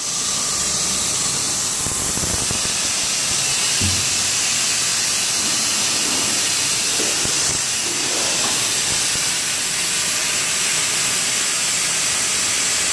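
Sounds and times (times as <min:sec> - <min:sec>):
plasma cutting torch hissing: 0:00.0 - 0:12.9.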